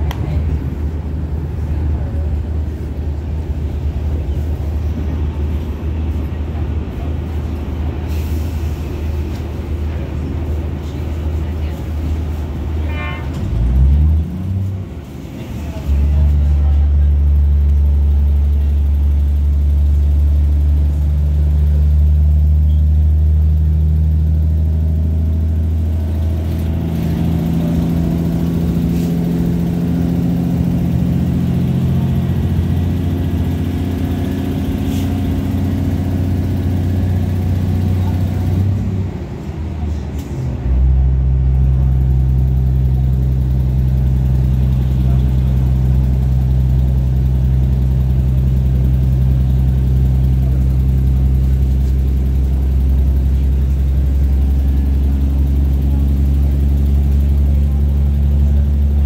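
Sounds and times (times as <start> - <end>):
train running noise: 0.0 - 22.1, 22.7 - 59.0
train diesel engine droning: 0.0 - 59.0.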